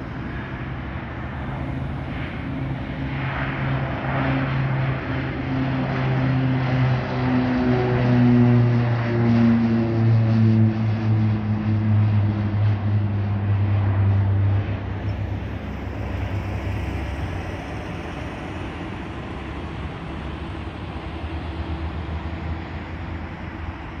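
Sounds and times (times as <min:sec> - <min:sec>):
turboprop plane propeller drone: 0:00.0 - 0:24.0.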